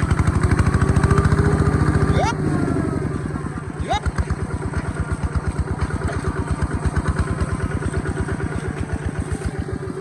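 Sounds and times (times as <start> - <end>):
diesel engine running steadily: 0.0 - 10.0.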